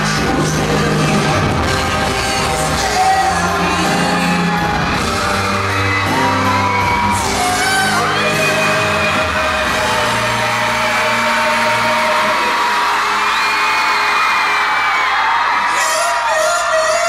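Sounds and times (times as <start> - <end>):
pop-rock band playing: 0.0 - 15.4.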